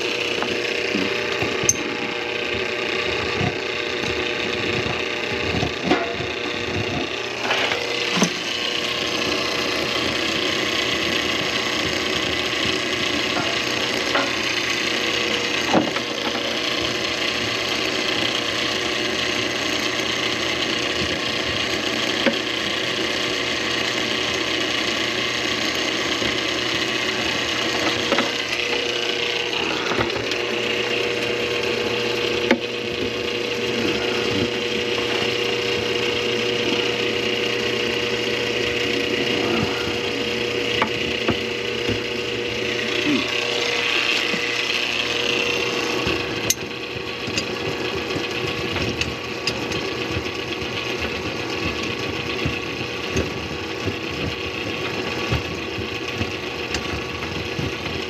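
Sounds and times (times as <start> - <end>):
drain cable turning and rattling: 0.0 - 58.0
motor hum: 0.0 - 58.0.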